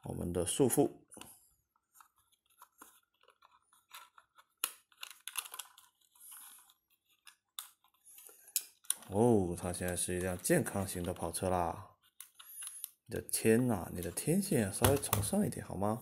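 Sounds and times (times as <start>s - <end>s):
wire clicking and scratching on plastic: 1.2s - 13.1s, 14.0s - 15.4s.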